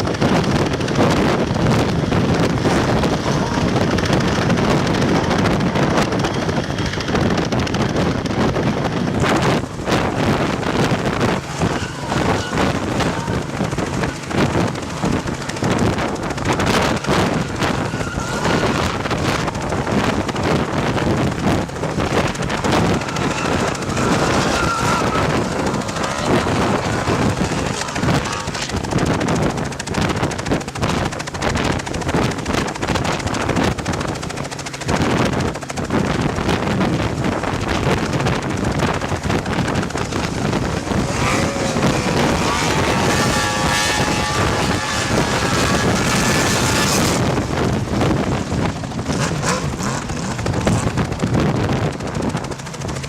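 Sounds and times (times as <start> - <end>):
helicopter rotor and engine: 0.0 - 53.0
wind buffeting microphone: 0.0 - 53.0.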